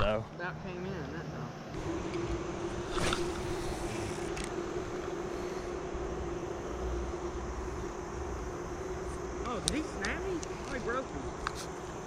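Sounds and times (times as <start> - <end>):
outdoor background noise: 0.0 - 12.0
steady engine hum: 0.0 - 12.0.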